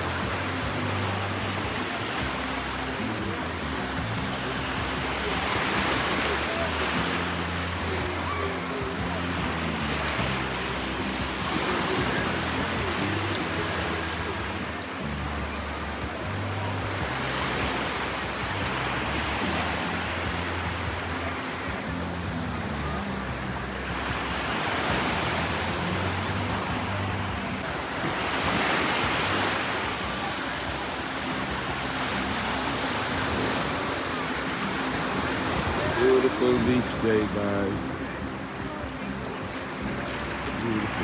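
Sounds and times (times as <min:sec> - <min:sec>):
ocean surf washing onto beach: 0:00.0 - 0:41.0
soft low background music: 0:00.0 - 0:41.0.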